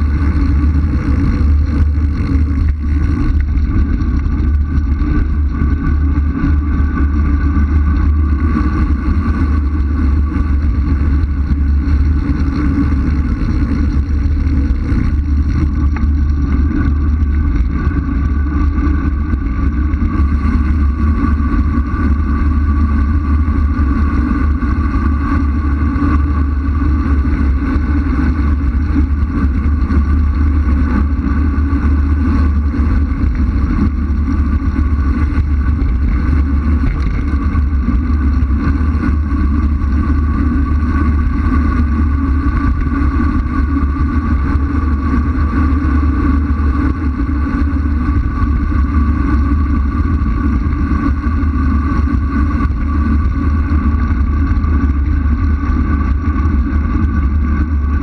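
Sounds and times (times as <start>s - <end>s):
wind rushing over camera: 0.0s - 58.0s.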